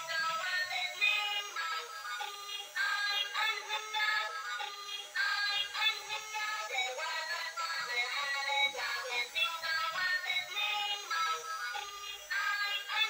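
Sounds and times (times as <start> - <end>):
electronic toy melody: 0.0 - 13.0.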